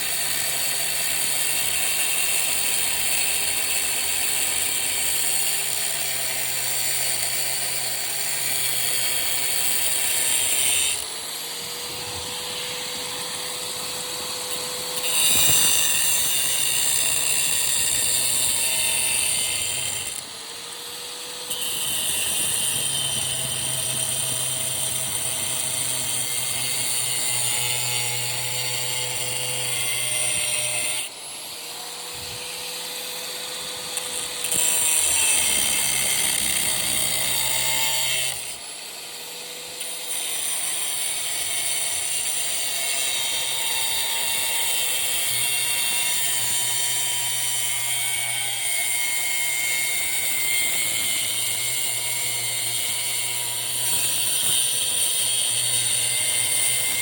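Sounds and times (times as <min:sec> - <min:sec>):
angle grinder cutting metal: 0:00.0 - 0:57.0.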